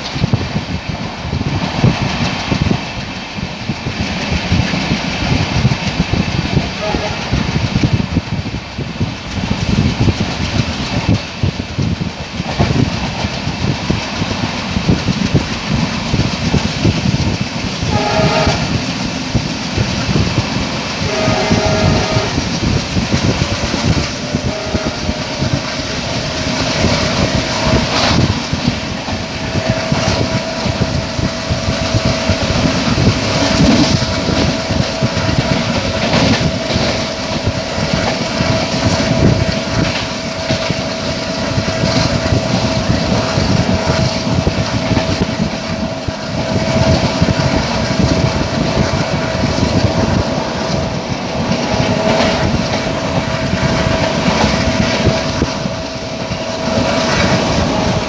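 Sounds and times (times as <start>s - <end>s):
rushing air: 0.0s - 58.0s
train wheels rumbling on rails: 0.0s - 58.0s.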